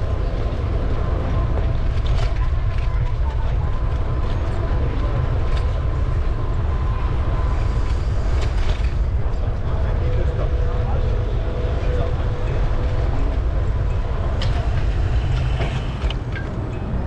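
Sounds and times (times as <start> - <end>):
city street noise: 0.0 - 17.0
wind rumbling on microphone: 0.0 - 17.0.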